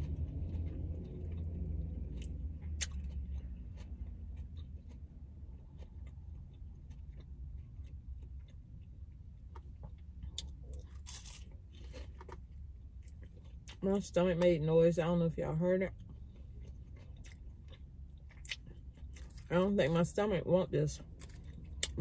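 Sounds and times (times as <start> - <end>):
chewing crisp lettuce: 0.0 - 13.8, 15.9 - 20.1, 21.0 - 22.0.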